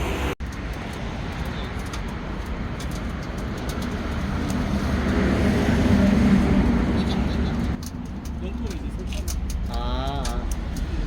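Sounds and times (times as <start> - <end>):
wood fire crackling: 0.3 - 11.0.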